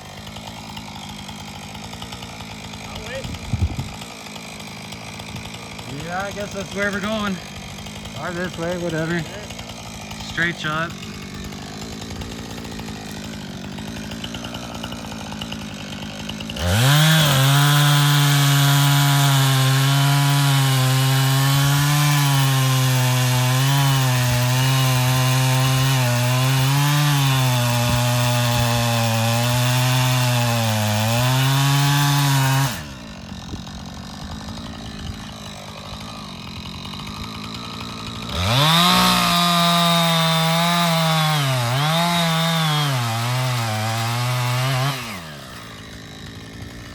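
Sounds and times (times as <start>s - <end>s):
chainsaw cutting tree trunk: 0.0s - 46.9s.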